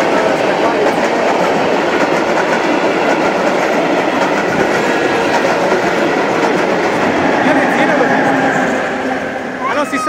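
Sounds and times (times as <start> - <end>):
wheels clacking over rail joints: 0.0 - 9.1
train carriages rumbling: 0.0 - 10.0.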